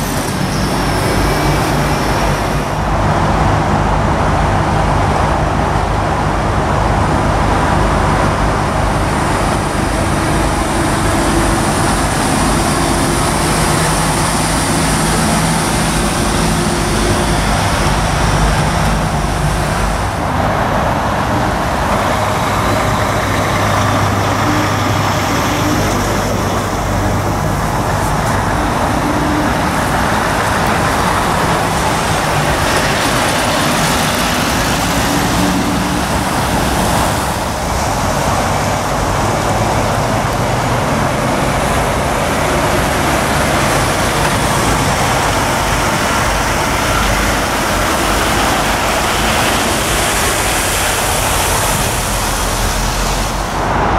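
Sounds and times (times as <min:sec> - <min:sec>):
lorry diesel engines driving past: 0:00.0 - 0:53.9.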